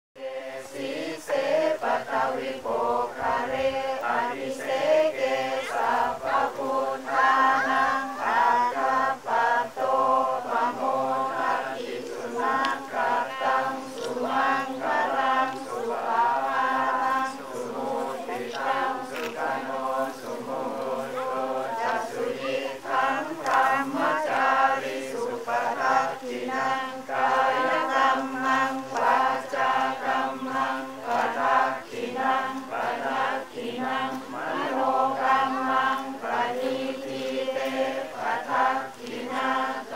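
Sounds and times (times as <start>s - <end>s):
group chanting in unison: 0.2s - 39.9s.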